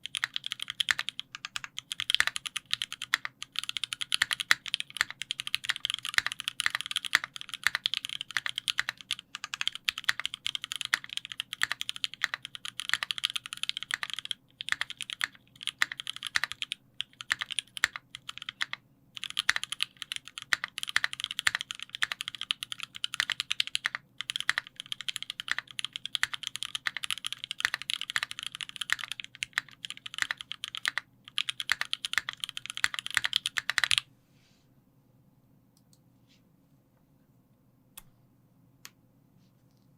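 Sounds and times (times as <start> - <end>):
mechanical keyboard typing: 0.0 - 34.0.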